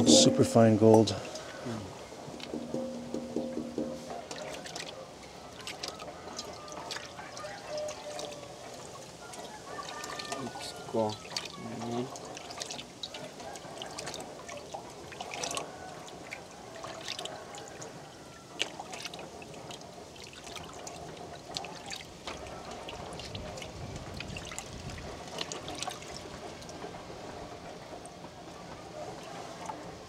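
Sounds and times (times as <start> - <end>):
water drips: 0.0 - 27.0
water trickling and splashing: 0.0 - 30.0.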